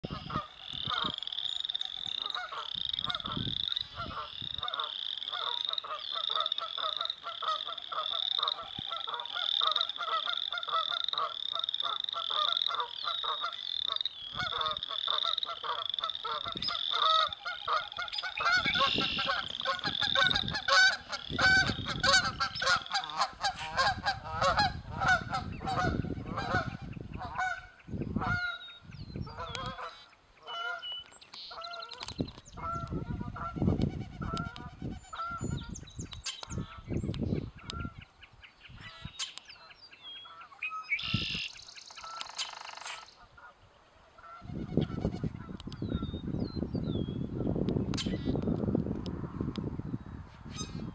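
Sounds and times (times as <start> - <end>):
geese honking: 0.0 - 28.7, 29.3 - 35.6, 40.2 - 46.2
frogs calling: 0.0 - 43.2.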